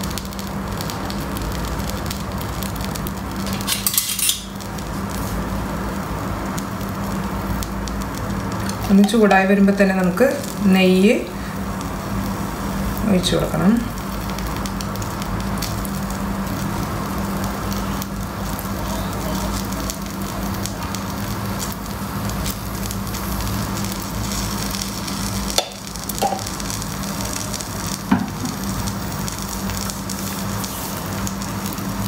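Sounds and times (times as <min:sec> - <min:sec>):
ghee sizzling on a hot pan: 0:00.0 - 0:32.0.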